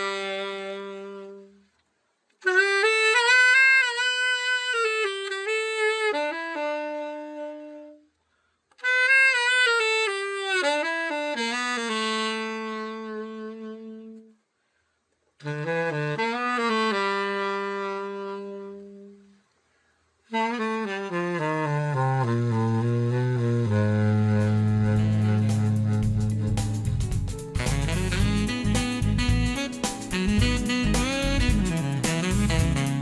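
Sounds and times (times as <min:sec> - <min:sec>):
solo tenor saxophone: 0:00.0 - 0:01.8, 0:02.4 - 0:14.5, 0:15.3 - 0:33.0.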